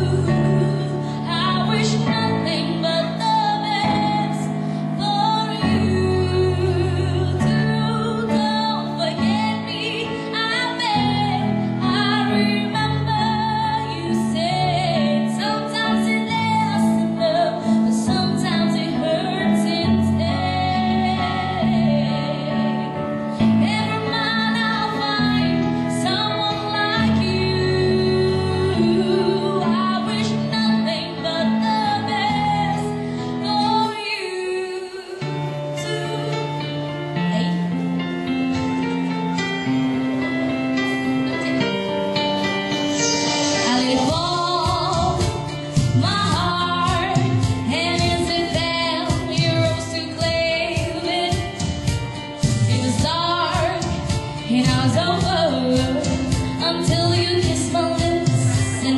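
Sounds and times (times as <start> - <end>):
woman singing into microphone: 0.0 - 37.8, 41.3 - 58.9
instrumental accompaniment: 0.0 - 58.9.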